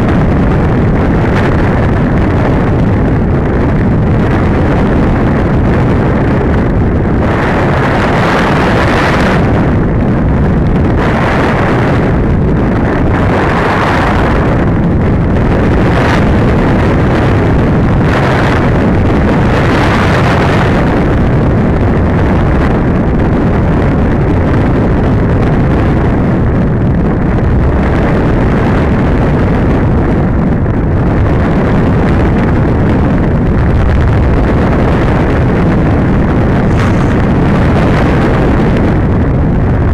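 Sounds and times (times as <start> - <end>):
air rushing over microphone: 0.0 - 39.9.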